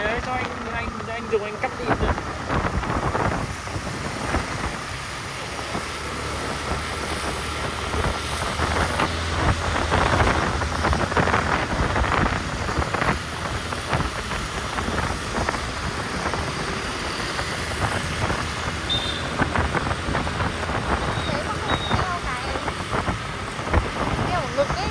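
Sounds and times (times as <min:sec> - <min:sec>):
motorbike engine hum: 0:00.0 - 0:24.9
road noise: 0:00.0 - 0:24.9
wind buffeting microphone: 0:00.0 - 0:24.9.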